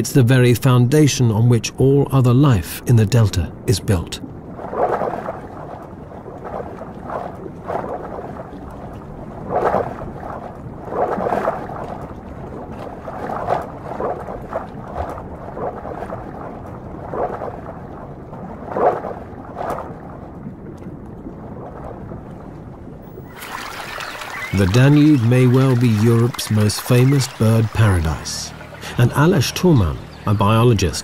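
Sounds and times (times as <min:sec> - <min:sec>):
muffled underwater rushing and bubbling: 0:02.5 - 0:31.0.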